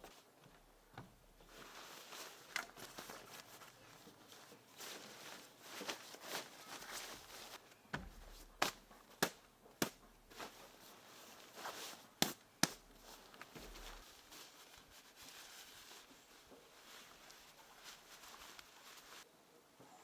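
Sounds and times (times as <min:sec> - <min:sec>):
faint rustling handling noise: 0:00.0 - 0:19.3.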